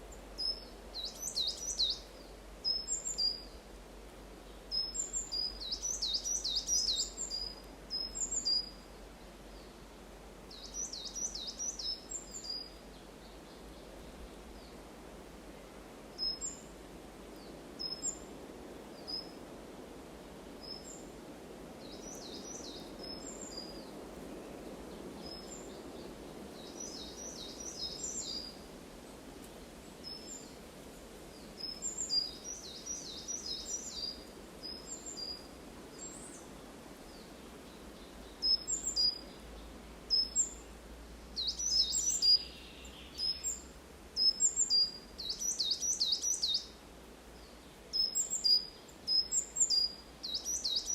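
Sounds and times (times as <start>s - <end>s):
faint steady background hiss: 0.0s - 50.9s.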